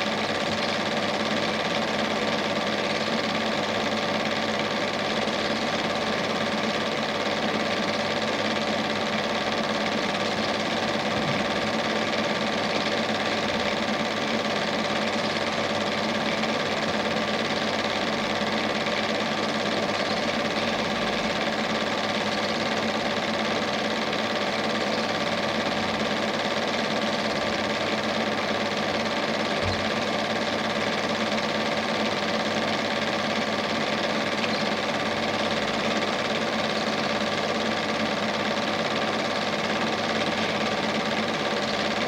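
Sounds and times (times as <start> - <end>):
film projector whirring: 0.0 - 42.0.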